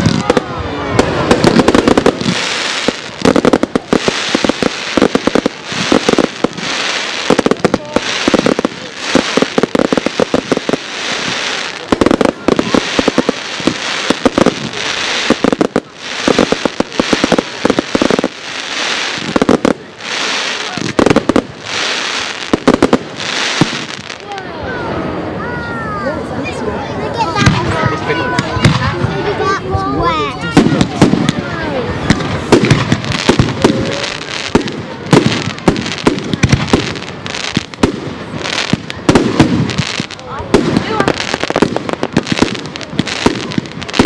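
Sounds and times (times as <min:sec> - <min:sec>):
rapid crackling pops: 0:00.0 - 0:24.3, 0:32.1 - 0:44.0.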